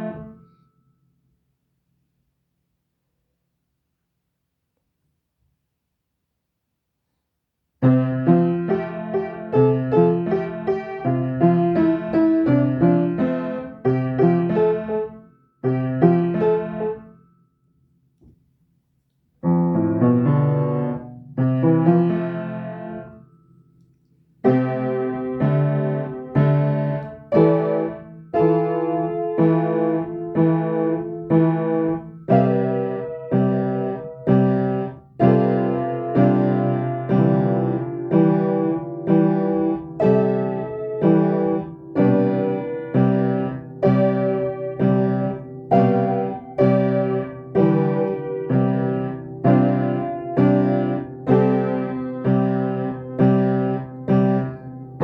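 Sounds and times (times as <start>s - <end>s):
piano chords: 0.0s - 0.8s, 7.8s - 17.4s, 19.4s - 55.0s.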